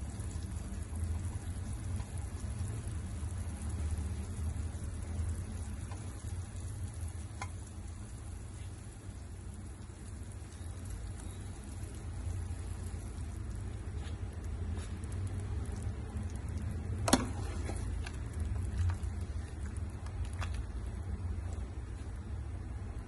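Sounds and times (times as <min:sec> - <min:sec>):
soup bubbling in a pot: 0:00.0 - 0:23.0.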